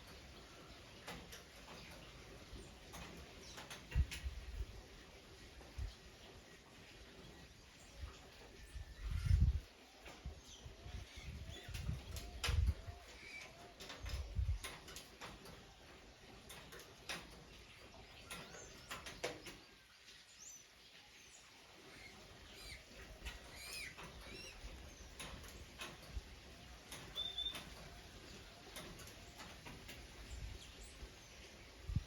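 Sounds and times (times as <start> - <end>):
birds chirping: 0.0 - 32.0
faint clicks and rustles: 0.0 - 32.0.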